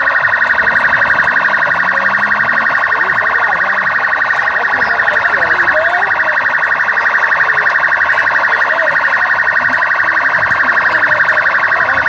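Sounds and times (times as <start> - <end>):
police siren warbling: 0.0 - 12.0.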